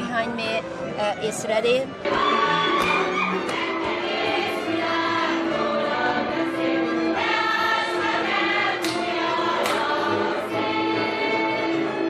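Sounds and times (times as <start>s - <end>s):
group singing folk song in chorus: 2.1s - 12.0s.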